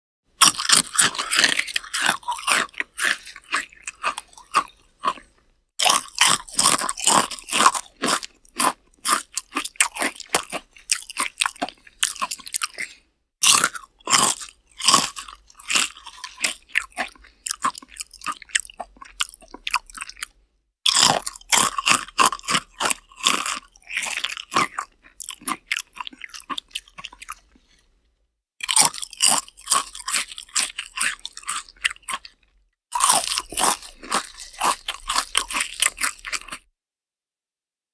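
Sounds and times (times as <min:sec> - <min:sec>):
person chewing crunchy food: 0:00.3 - 0:28.0, 0:28.6 - 0:36.7.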